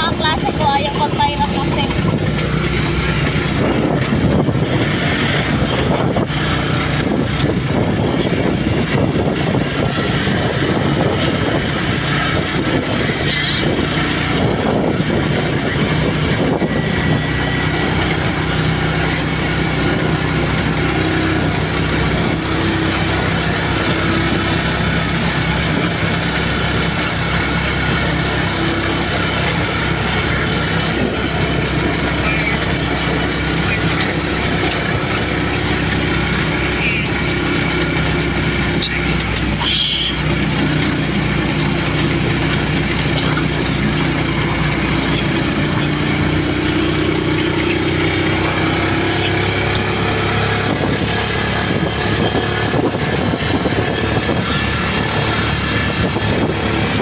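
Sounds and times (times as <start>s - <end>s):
motorcycle engine droning: 0.0s - 57.0s
wind and road noise: 0.0s - 57.0s.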